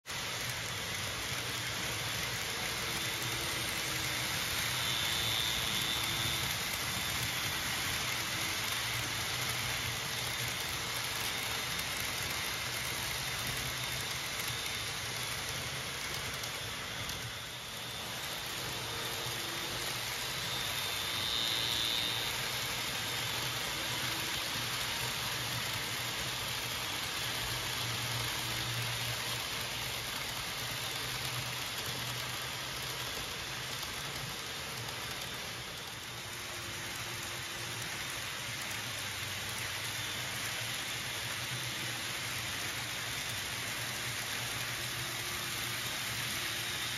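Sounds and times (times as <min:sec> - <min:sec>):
small wheels hissing on rails: 0:00.0 - 0:46.9
faint high whine: 0:00.2 - 0:46.9.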